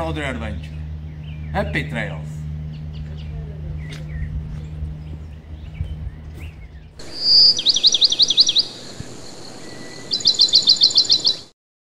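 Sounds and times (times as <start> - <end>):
songbird singing: 0.0 - 11.5.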